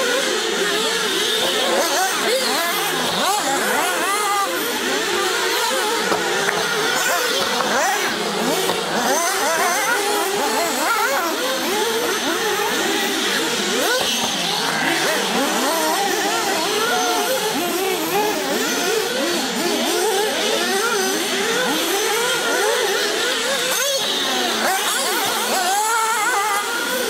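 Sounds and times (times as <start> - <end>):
rc car engines whining and revving: 0.0 - 27.0.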